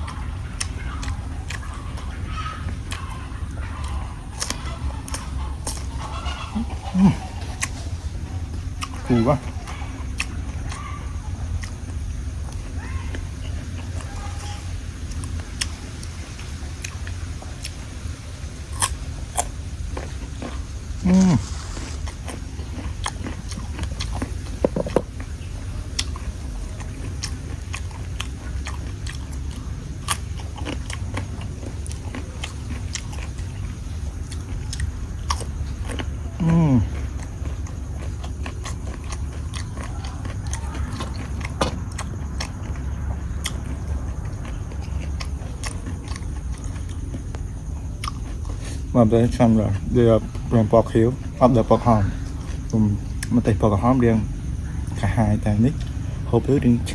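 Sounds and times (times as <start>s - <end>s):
crunchy chewing of raw fruit: 0.0s - 56.9s
low rumble: 0.0s - 56.9s
steady low hum: 0.0s - 56.9s.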